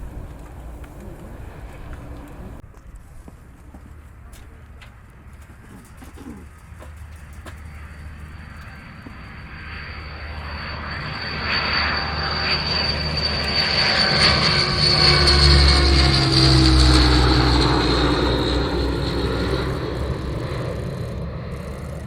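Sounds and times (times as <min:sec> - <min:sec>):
turboprop engines whining: 0:00.0 - 0:22.0.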